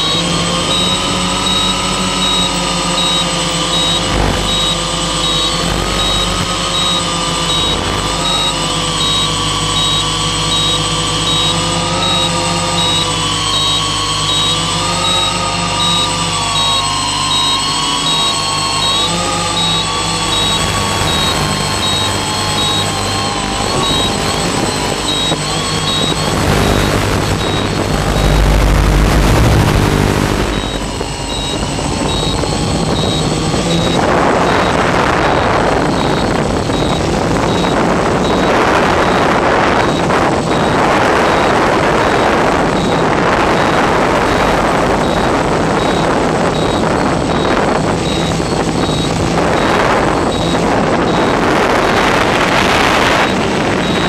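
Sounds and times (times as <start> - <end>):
drone motors and propellers: 0.0 - 54.0
faint steady hum: 0.0 - 54.0.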